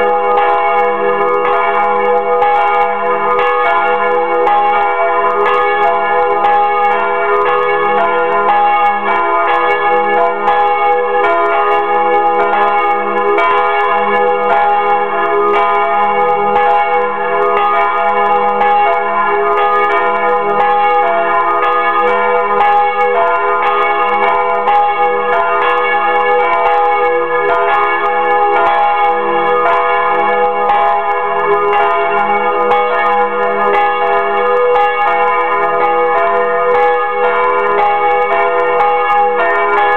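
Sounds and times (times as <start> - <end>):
church bells ringing in a peal: 0.0 - 39.9.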